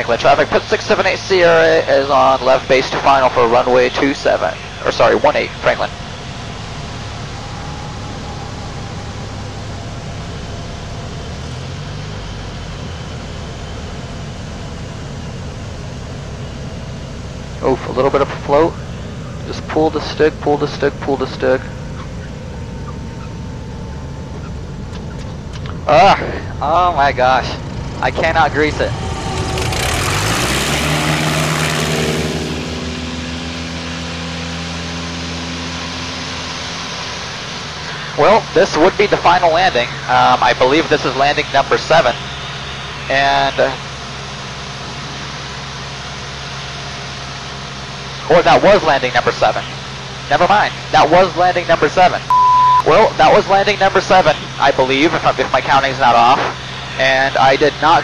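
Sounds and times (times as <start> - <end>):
propeller plane engine: 0.0 - 58.0.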